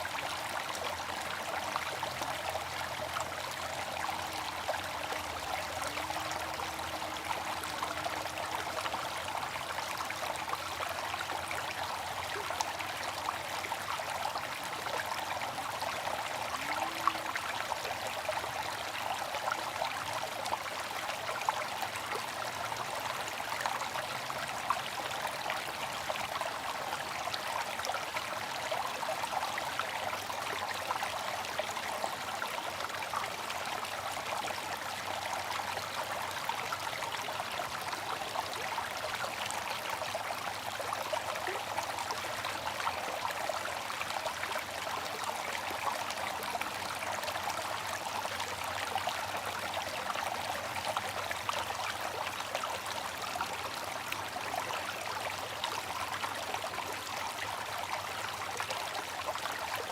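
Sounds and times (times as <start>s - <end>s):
fountain water trickling and splashing: 0.0s - 59.9s.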